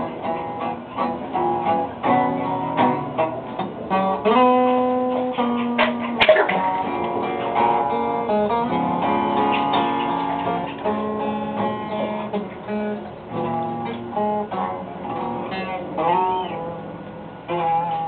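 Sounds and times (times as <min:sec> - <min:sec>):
plucked string instrument music: 0:00.0 - 0:18.0.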